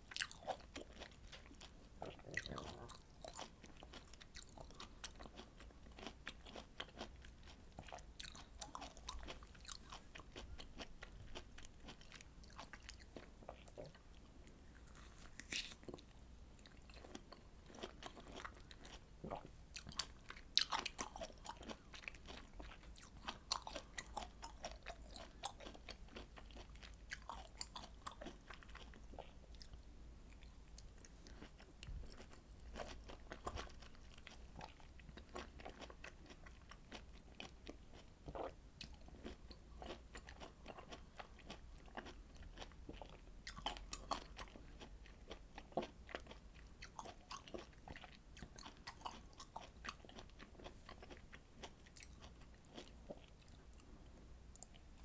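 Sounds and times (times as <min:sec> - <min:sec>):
chewing citrus fruit: 0:00.0 - 0:55.0.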